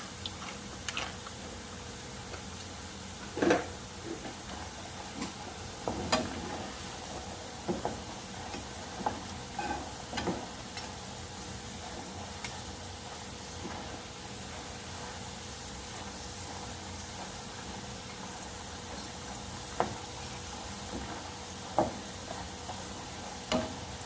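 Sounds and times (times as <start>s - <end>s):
fries sizzling in hot oil: 0.0s - 24.0s.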